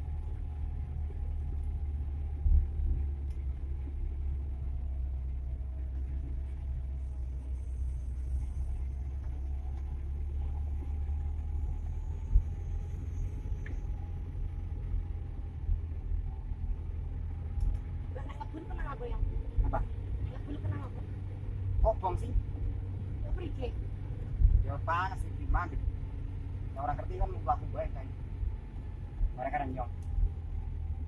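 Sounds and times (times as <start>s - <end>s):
engine and road rumble: 0.0s - 31.0s
faint wavering whine: 0.0s - 31.0s.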